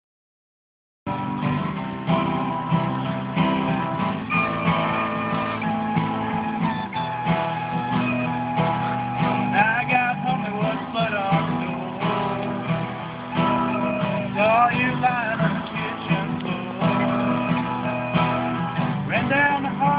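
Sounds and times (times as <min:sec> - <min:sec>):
acoustic guitar strumming: 0:01.1 - 0:19.9
recorder melody: 0:01.1 - 0:19.9.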